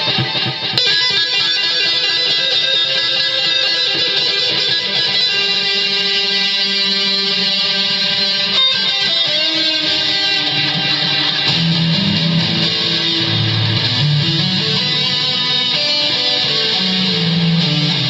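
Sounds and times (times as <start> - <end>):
electric guitar chords and notes: 0.0 - 18.0.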